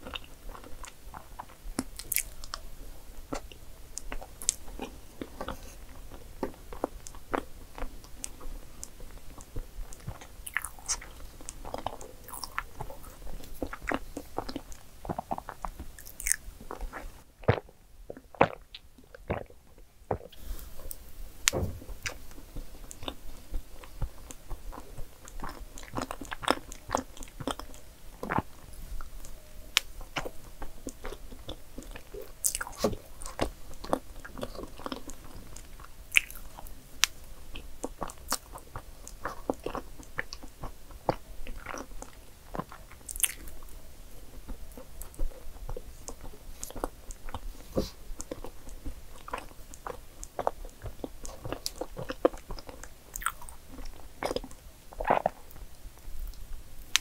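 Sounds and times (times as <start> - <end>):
chewing with wet mouth clicks: 0.0 - 2.6, 3.3 - 20.4, 21.4 - 47.4, 48.2 - 55.7.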